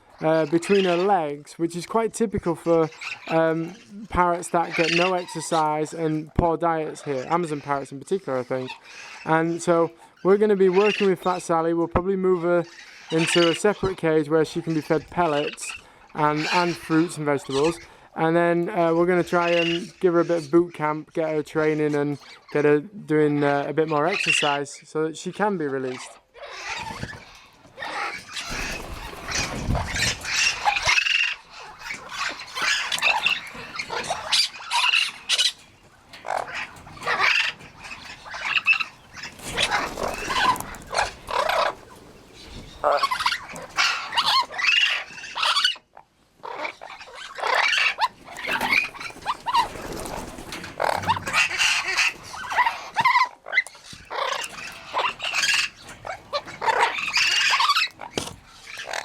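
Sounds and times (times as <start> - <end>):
parrots squawking: 0.0 - 18.2, 18.8 - 20.7, 21.6 - 59.0.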